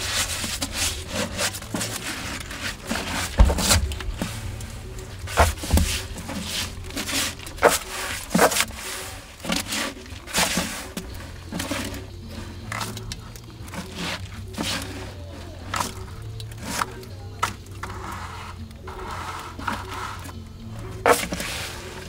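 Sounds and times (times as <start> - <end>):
low steady hum: 0.0 - 22.0
scraping and rubbing strokes: 0.0 - 22.0.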